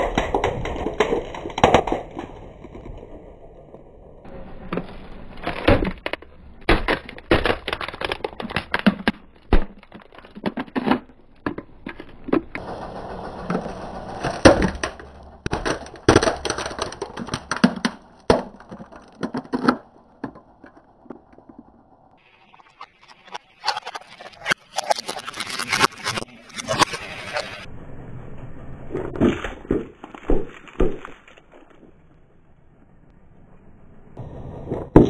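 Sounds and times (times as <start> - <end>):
plastic toys cracking under tyre: 0.0 - 27.0, 29.0 - 32.4.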